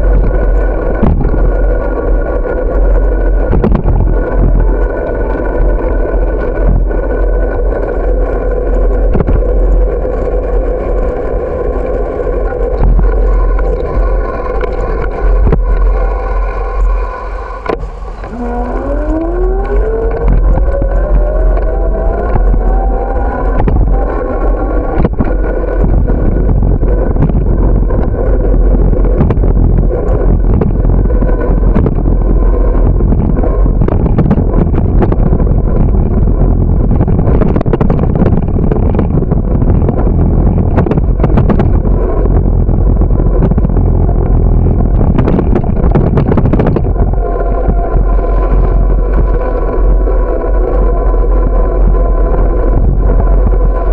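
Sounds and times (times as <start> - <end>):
rising whine: 0.0 - 53.9
road rumble: 0.0 - 53.9
wind buffeting microphone: 0.0 - 53.9.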